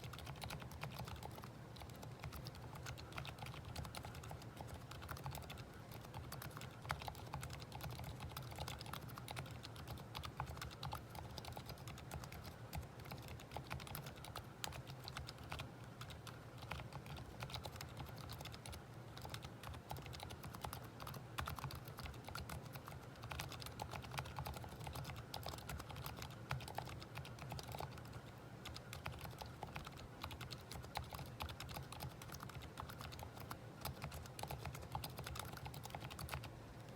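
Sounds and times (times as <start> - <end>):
soft keyboard typing: 0.0 - 36.9.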